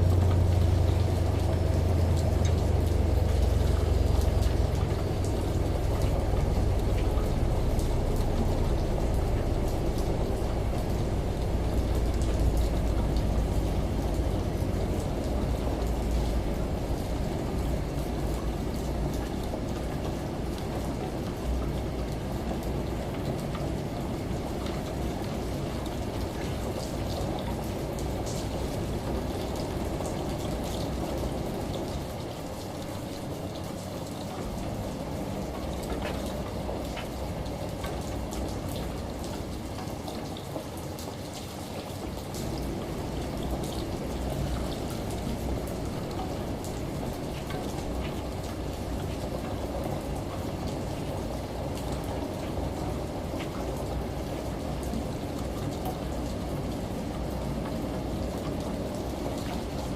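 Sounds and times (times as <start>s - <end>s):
running shower water: 0.0s - 59.9s
steady rain: 0.0s - 59.9s
water drips: 0.0s - 59.9s.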